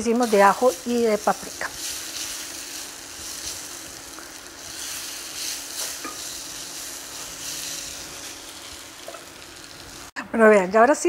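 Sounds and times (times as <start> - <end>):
potatoes sizzling in hot oil: 0.0 - 10.1.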